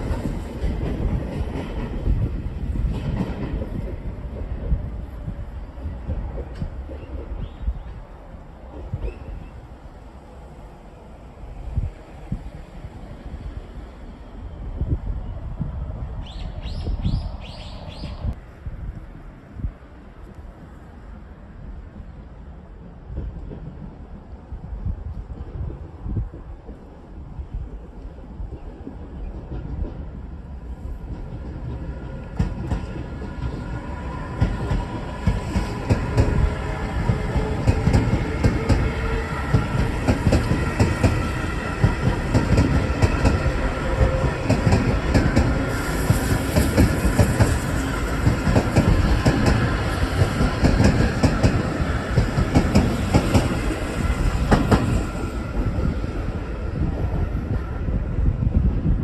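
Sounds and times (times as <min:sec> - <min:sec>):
electric train passing: 0:00.0 - 0:59.0.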